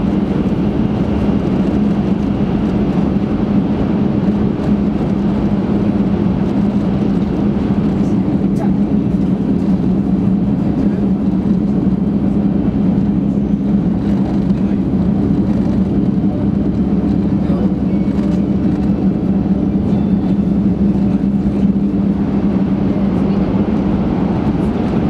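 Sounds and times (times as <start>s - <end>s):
constant hum: 0.0s - 25.0s
train cabin low rumble: 0.0s - 25.0s.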